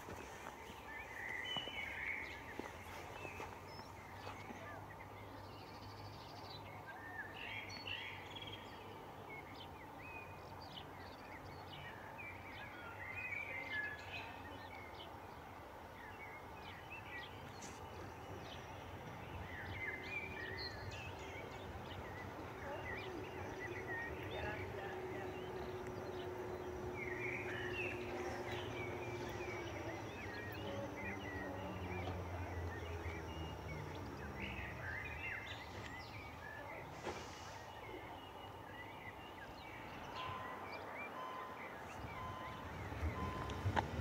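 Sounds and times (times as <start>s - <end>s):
outdoor background noise: 0.0s - 44.0s
small birds chirping and trilling: 0.0s - 44.0s.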